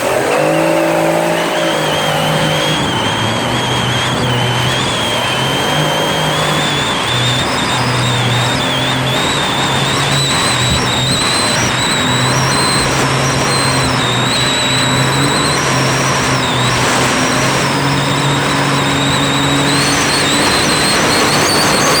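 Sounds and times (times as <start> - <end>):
high-pitched wavering whine: 0.0 - 22.0
whitewater rapids rushing: 0.0 - 22.0.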